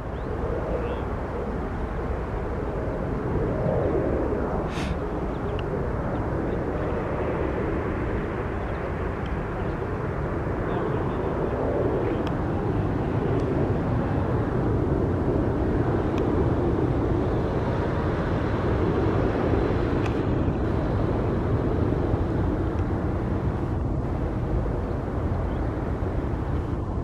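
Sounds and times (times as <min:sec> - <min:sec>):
jet engines rumbling at takeoff: 0:00.0 - 0:27.0.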